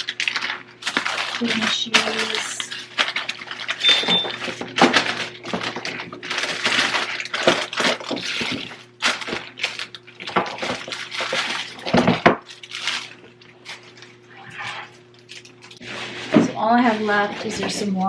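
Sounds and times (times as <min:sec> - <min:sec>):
plastic packaging rustling: 0:00.0 - 0:18.0.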